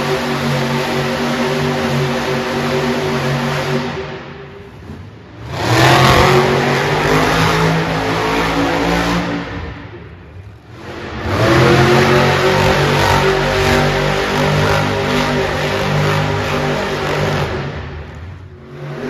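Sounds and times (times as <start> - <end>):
truck engines revving: 0.0 - 19.0.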